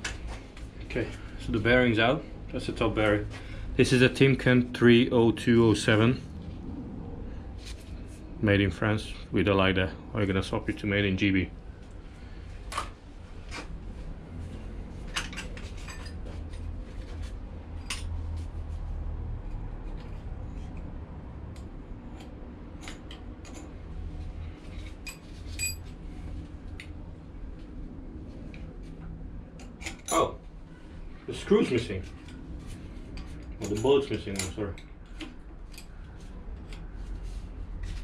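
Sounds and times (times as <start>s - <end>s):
steady low rumble: 0.0s - 38.0s.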